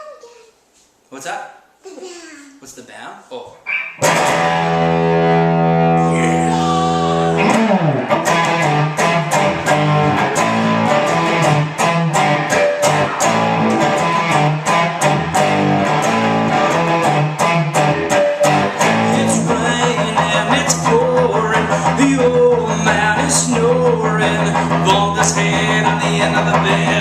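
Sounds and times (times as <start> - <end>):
distorted electric guitar rock riff: 3.7 - 27.0.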